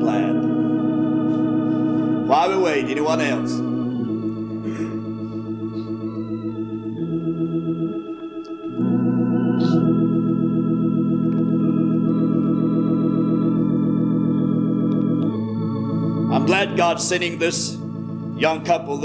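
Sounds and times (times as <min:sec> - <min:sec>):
organ playing hymn chords: 0:00.0 - 0:19.0.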